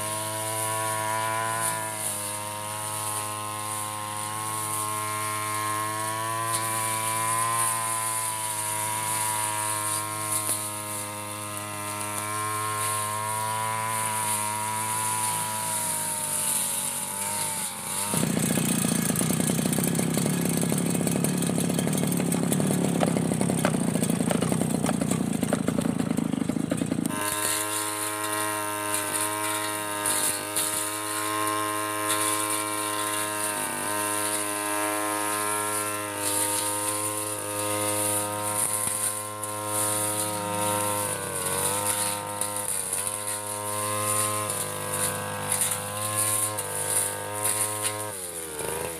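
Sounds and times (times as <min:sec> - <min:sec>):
brush cutter engine whine: 0:00.0 - 0:48.9.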